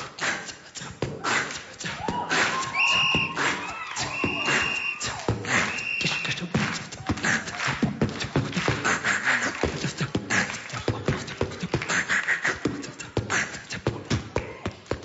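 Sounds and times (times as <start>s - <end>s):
man beatboxing: 0.0s - 15.0s.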